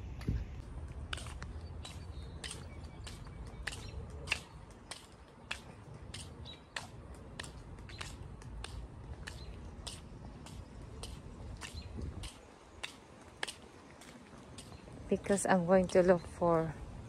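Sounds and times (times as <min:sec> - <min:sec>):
footsteps on concrete: 0:00.0 - 0:16.8.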